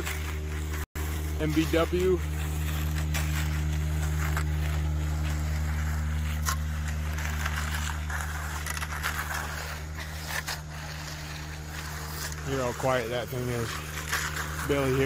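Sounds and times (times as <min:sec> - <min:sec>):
power screed humming: 0:00.0 - 0:15.0
scraping wet concrete: 0:00.0 - 0:15.0.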